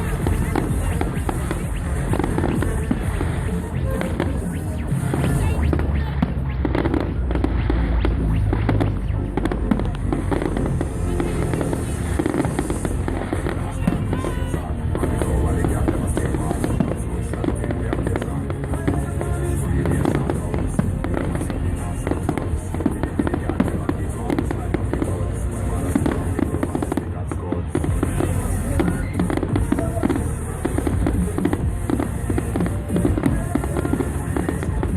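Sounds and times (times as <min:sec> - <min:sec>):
fireworks bangs and crackles: 0:00.0 - 0:34.9
music playing: 0:00.0 - 0:34.9.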